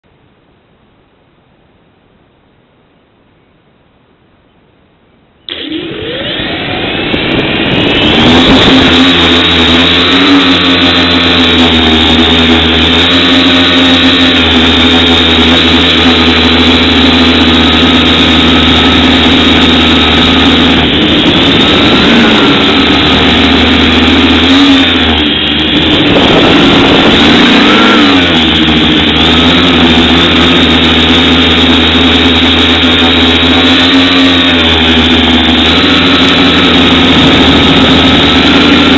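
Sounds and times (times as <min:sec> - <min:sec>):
quadcopter motors whining: 0:05.5 - 0:38.9.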